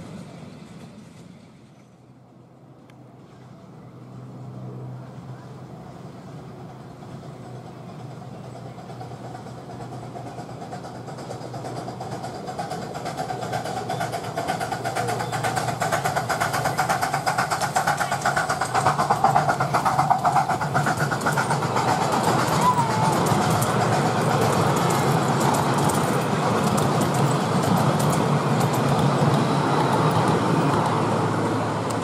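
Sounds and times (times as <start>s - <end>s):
miniature steam locomotive passing: 0.0s - 32.0s
exhaust beat and wheels on rails: 5.2s - 32.0s.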